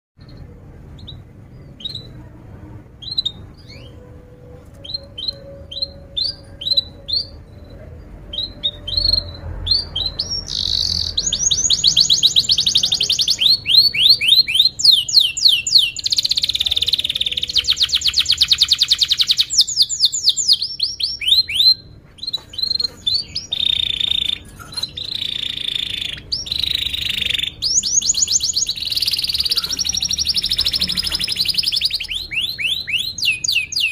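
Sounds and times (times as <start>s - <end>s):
canary singing chirps and trills: 0.2s - 33.9s.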